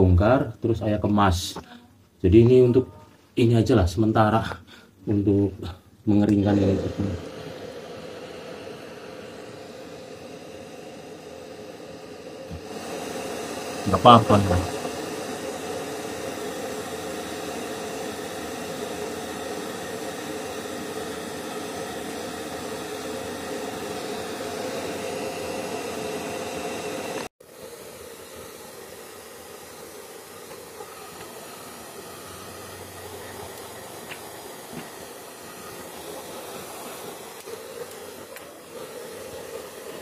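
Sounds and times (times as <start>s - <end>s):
hair dryer blowing: 6.3s - 40.0s.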